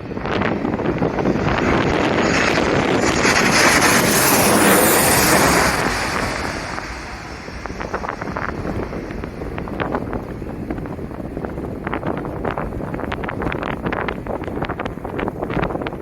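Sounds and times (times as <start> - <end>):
jet airliner passing overhead: 0.0 - 16.0
wind buffeting microphone: 0.0 - 16.0.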